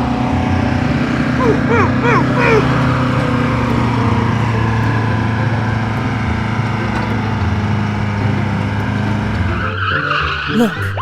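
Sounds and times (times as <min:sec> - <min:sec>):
engine idling hum: 0:00.0 - 0:09.5.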